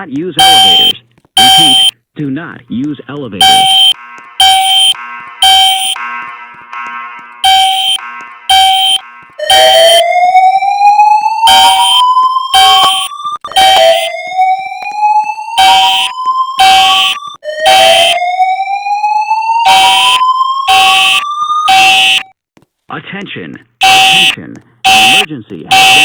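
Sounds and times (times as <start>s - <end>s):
alarm horn blasts: 0.4s - 1.9s, 3.4s - 22.3s, 23.8s - 26.0s
slow-whoop alarm tone: 0.4s - 1.9s, 3.4s - 6.2s, 6.8s - 22.4s, 23.8s - 26.0s.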